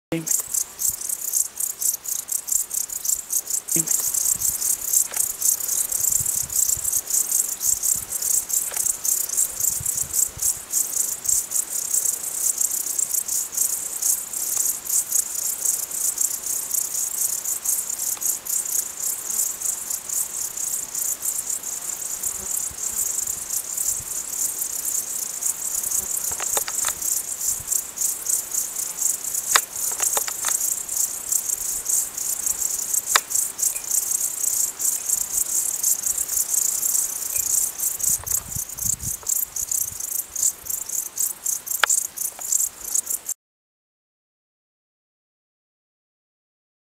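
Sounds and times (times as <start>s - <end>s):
crickets chirping: 0.1s - 43.4s.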